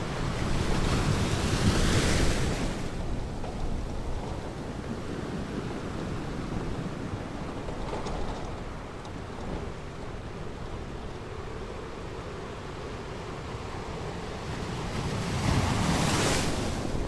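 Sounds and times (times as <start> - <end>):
ocean waves on a beach: 0.0 - 17.0.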